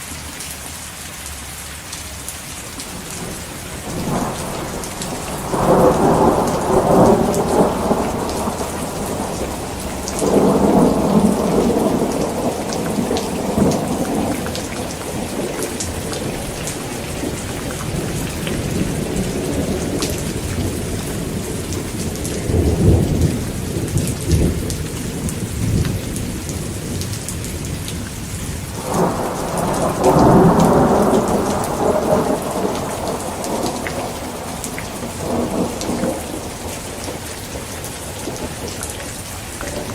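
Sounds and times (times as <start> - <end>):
heavy rain: 0.0 - 39.9
thunder rumbling: 2.9 - 39.9.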